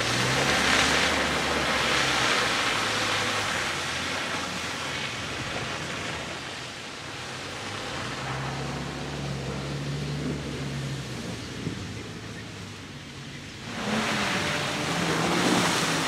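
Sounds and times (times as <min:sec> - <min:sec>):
low engine drone: 0:00.0 - 0:16.0
tyres churning mud: 0:00.0 - 0:16.0.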